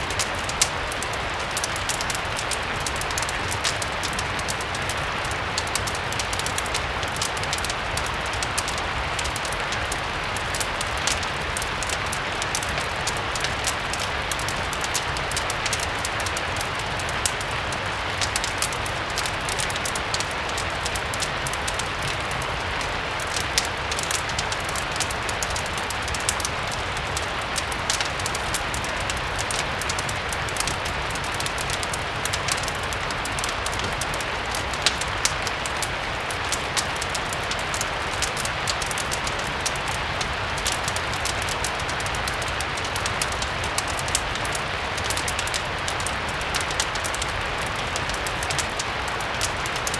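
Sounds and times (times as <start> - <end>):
crackling wood fire: 0.0 - 49.9
steady rain: 0.0 - 49.9.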